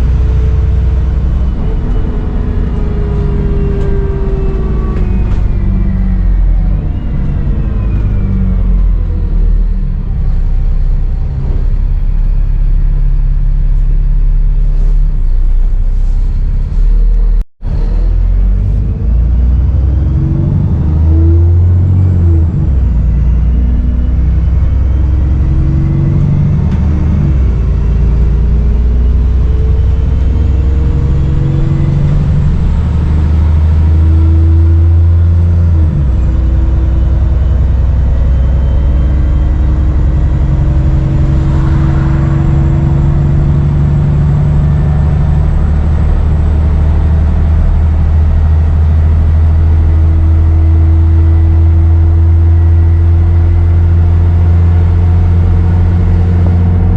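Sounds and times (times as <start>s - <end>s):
bus diesel engine pulling: 0.0s - 56.9s.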